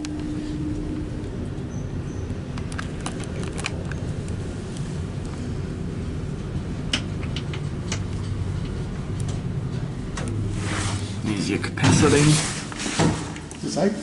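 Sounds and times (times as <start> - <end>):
lift car rumble and hum: 0.0 - 14.0.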